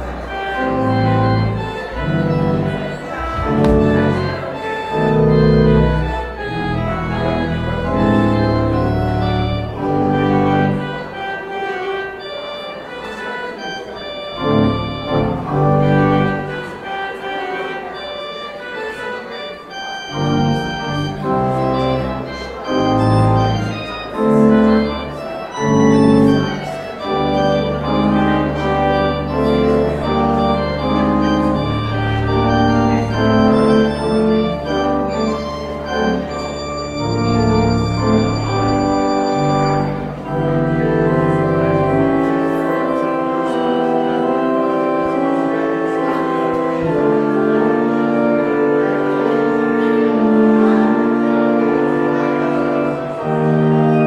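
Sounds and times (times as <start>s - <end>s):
church organ chords: 0.0s - 54.0s
deep organ bass pedal notes: 0.0s - 54.0s.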